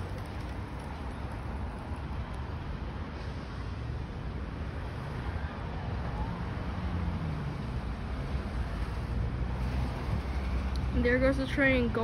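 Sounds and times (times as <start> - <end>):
cars crossing railroad crossing: 0.0 - 12.0.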